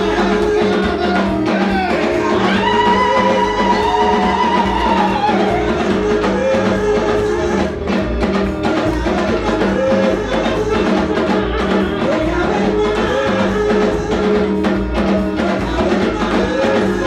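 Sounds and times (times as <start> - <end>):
held keyboard notes: 0.0 - 17.0
steady drum beat: 0.0 - 17.0.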